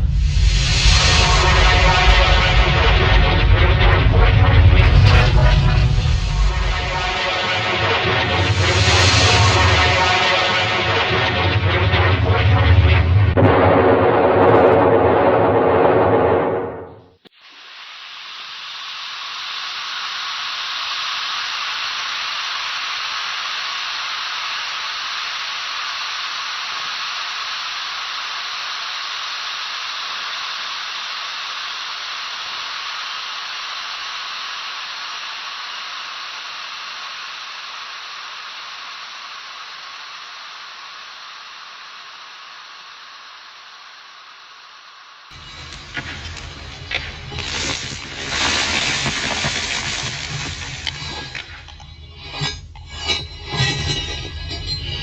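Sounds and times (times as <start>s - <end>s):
steady hiss: 0.0s - 13.2s, 17.2s - 55.0s.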